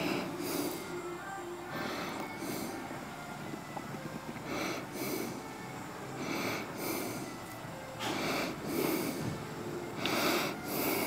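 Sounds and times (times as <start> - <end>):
man breathing hard: 0.0 - 11.0.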